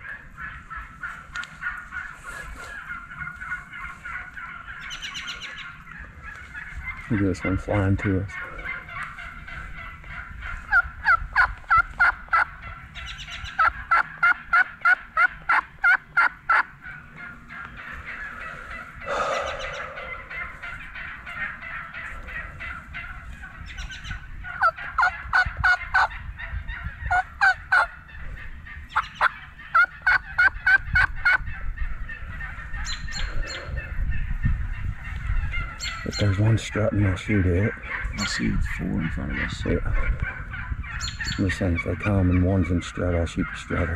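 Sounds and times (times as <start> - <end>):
turkey gobble: 0.0 - 43.9
turkeys yelping: 0.0 - 43.9.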